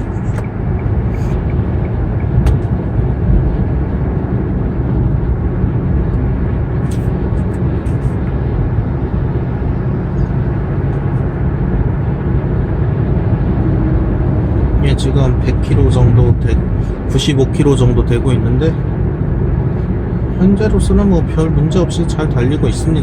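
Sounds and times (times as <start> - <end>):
car engine and tyre drone: 0.0 - 23.0.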